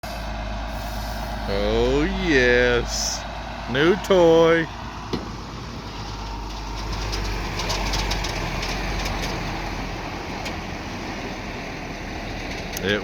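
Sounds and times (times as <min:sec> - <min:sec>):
heavy truck engine rumbling: 0:00.0 - 0:13.0.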